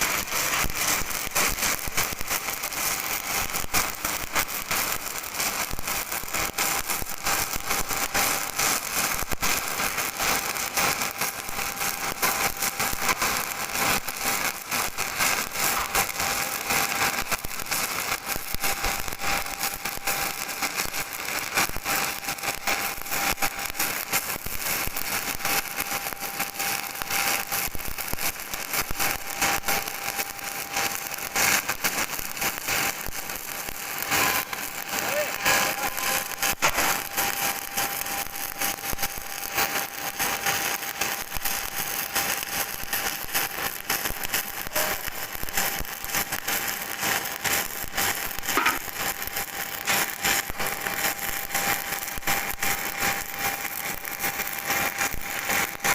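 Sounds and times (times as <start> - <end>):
welding arc crackling: 0.0 - 55.9.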